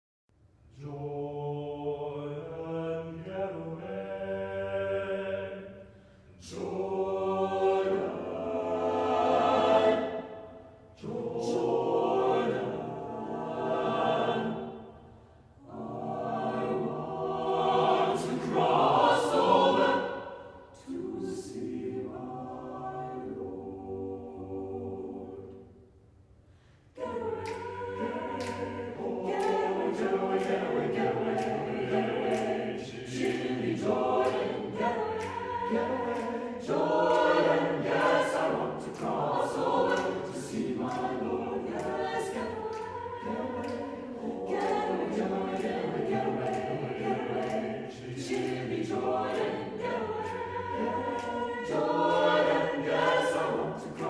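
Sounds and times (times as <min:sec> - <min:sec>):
choir singing a cappella: 0:00.7 - 0:54.0.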